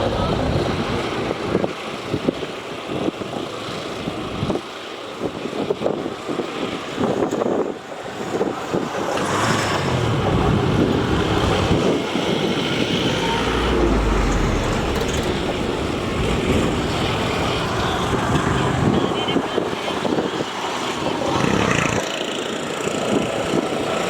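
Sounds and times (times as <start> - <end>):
boat engines rumbling: 0.0 - 3.2, 7.0 - 24.0
wind buffeting microphone: 0.0 - 4.6, 5.2 - 24.0
moving water: 0.0 - 21.8.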